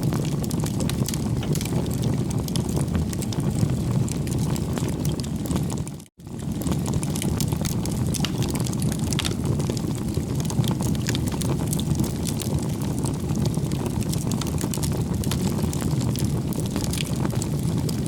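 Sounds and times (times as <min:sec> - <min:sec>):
low roar of fire: 0:00.0 - 0:18.0
wood crackling in a bonfire: 0:00.0 - 0:18.0.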